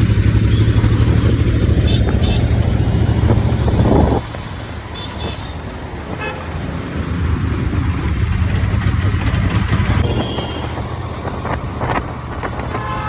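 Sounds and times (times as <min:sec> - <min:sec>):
motorcycle engine: 0:00.0 - 0:13.0
road rumble: 0:00.0 - 0:13.0.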